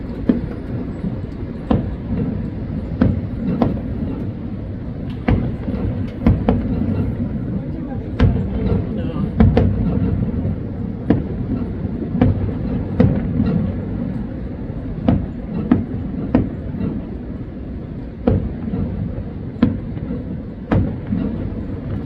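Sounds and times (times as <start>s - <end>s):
distant fireworks bangs: 0.0s - 22.0s
steady low rumble: 0.0s - 22.0s.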